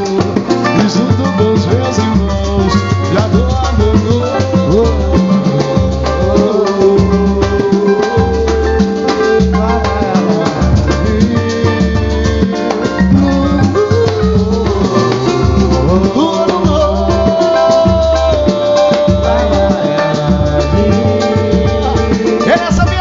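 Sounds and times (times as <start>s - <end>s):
low drum pulse: 0.0s - 23.0s
samba music: 0.0s - 23.0s.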